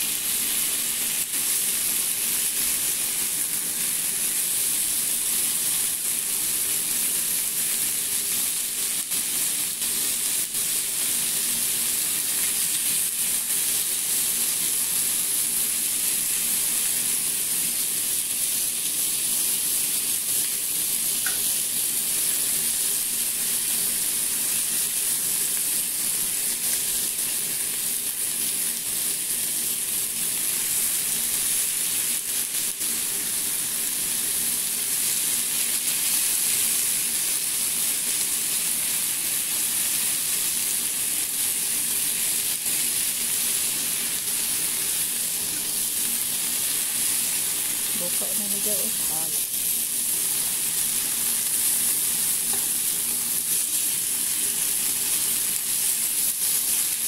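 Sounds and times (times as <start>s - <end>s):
chicken sizzling in a pan: 0.0s - 57.0s.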